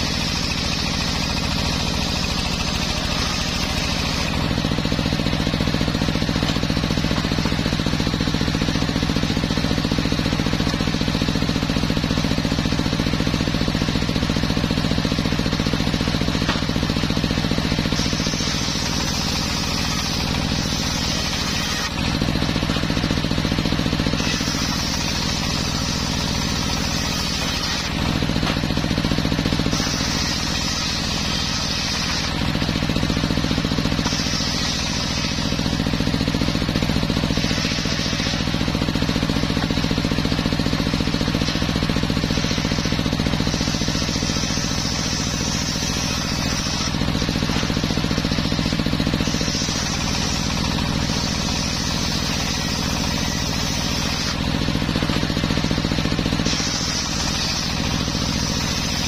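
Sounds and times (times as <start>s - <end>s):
high hiss of blade cutting: 0.0s - 8.1s, 16.5s - 22.7s, 23.8s - 59.0s
sawmill engine running: 0.0s - 59.0s.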